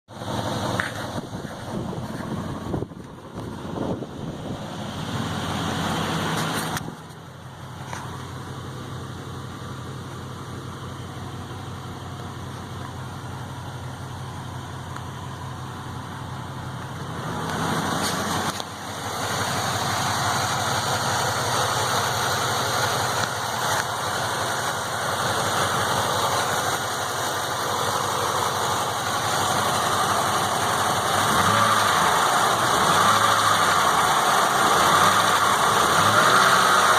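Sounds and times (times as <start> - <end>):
car engine idling: 0.1 - 36.9.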